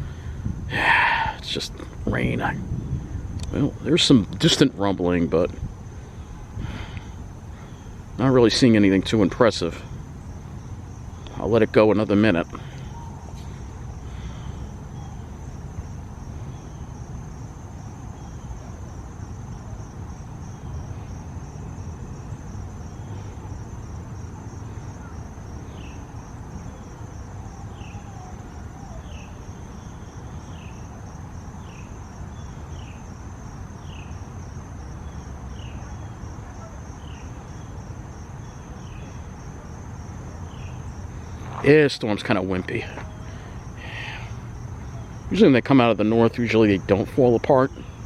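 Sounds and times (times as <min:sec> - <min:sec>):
crickets chirping: 0:00.0 - 0:48.0
low outdoor rumble: 0:00.0 - 0:48.0.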